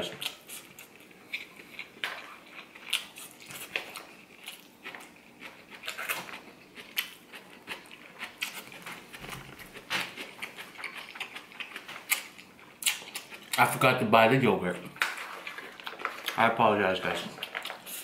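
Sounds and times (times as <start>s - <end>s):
chewing: 0.1s - 13.7s, 14.8s - 16.4s, 17.0s - 18.0s.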